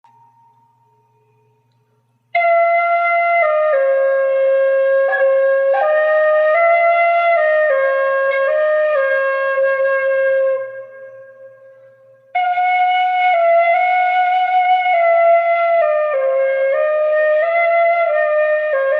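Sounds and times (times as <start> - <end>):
flute playing slow melody: 0.1 - 18.9.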